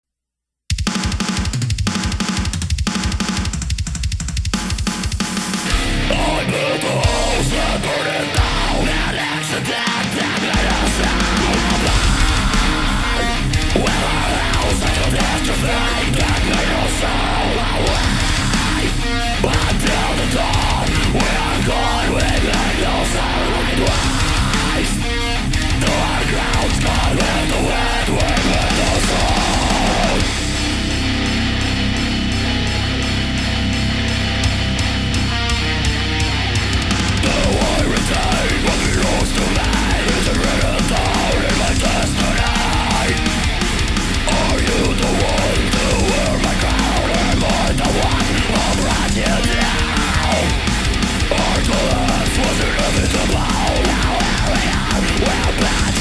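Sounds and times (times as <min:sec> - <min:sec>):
instrumental rock music: 0:00.7 - 0:56.0.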